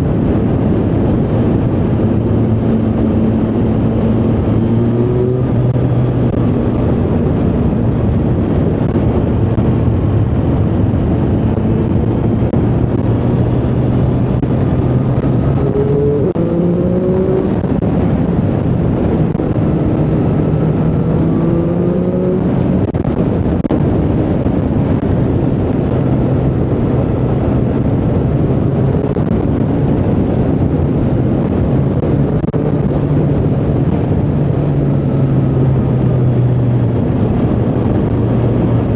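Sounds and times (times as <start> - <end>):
motorcycle engine running: 0.0 - 38.9
rush of noise: 0.0 - 38.9.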